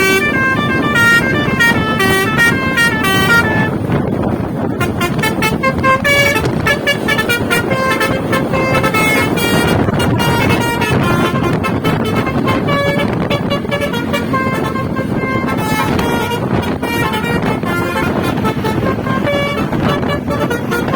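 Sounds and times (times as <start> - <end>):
bus musical horn tune: 0.0 - 20.9
vehicle noise: 0.0 - 20.9.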